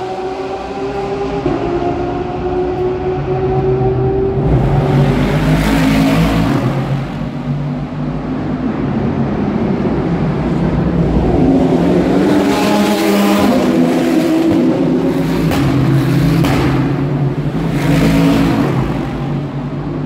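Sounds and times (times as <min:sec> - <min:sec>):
race cars passing at full speed: 0:00.0 - 0:20.0.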